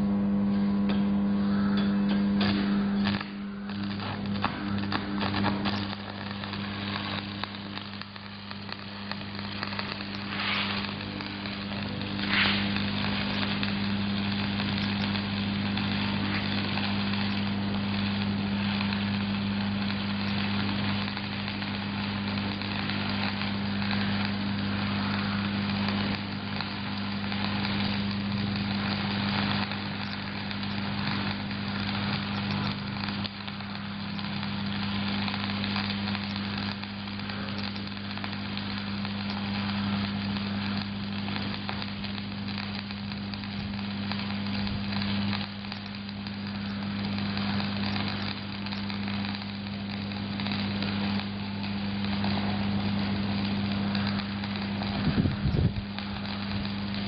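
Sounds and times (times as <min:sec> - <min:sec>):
low hum: 0:00.0 - 0:57.0
welding arc crackling and sizzling: 0:00.0 - 0:57.0.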